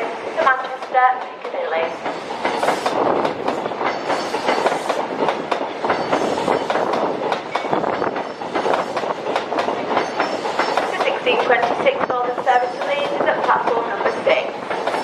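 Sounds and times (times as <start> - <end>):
train rumble: 0.0 - 15.0
train wheels clattering: 0.0 - 15.0.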